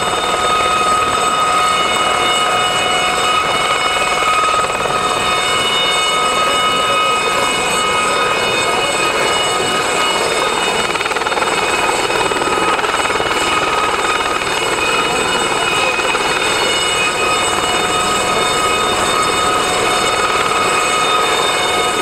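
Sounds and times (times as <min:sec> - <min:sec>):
helicopter hovering: 0:00.0 - 0:22.0.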